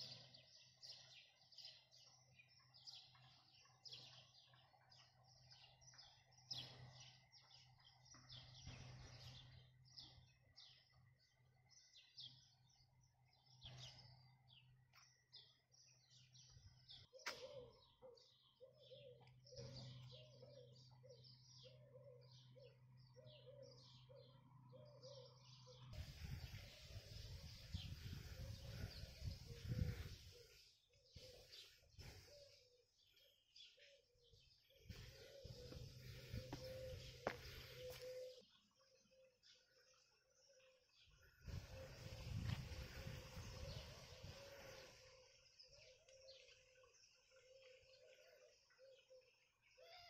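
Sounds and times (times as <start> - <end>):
lower repeated bird notes: 0.0 - 50.0
small birds chirping: 0.0 - 50.0.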